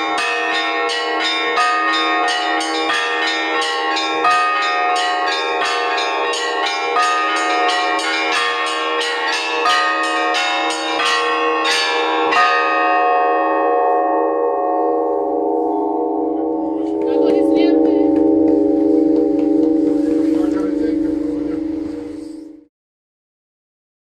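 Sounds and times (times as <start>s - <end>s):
church bells pealing: 0.0s - 22.7s.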